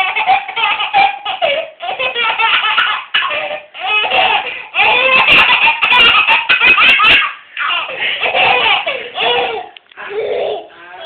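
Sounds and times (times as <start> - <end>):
baby laughing: 0.0 - 10.7.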